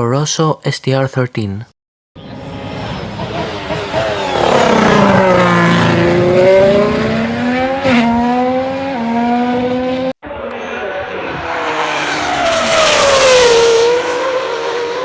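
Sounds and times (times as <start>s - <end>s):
racing car engine: 2.2s - 15.0s.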